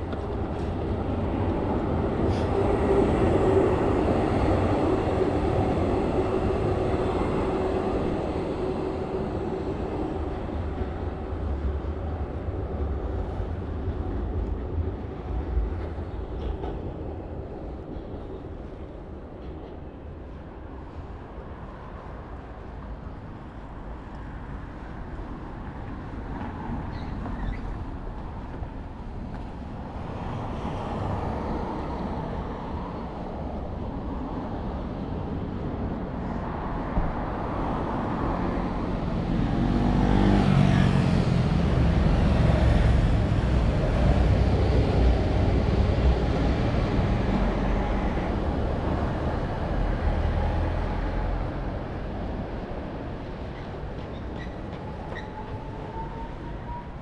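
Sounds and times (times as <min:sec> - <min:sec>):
city traffic: 0:00.0 - 0:57.0.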